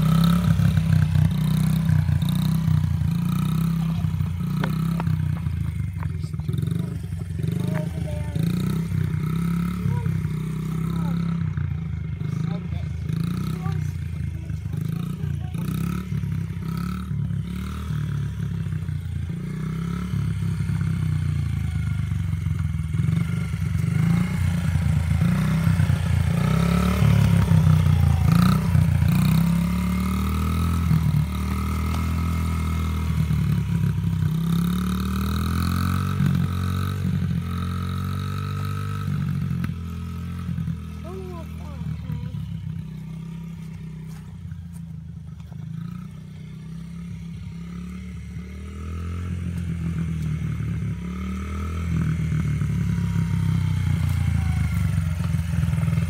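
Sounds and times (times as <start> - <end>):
dirt bike engine revving: 0.0 - 44.7, 45.6 - 56.0.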